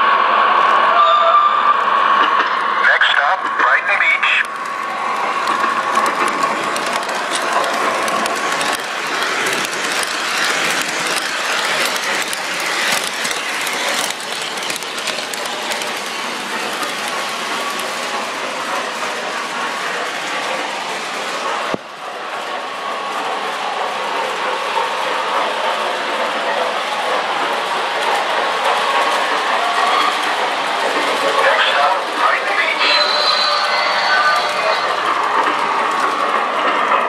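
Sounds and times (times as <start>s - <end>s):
toy train wheels clattering: 4.3s - 21.8s, 24.4s - 37.0s.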